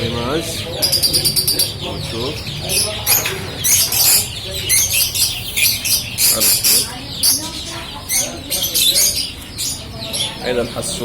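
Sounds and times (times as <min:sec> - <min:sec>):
small birds twittering: 0:00.0 - 0:11.0.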